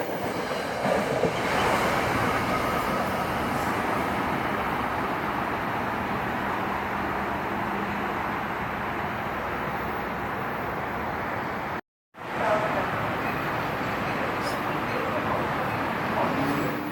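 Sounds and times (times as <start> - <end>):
train passing rumble: 0.0 - 16.9.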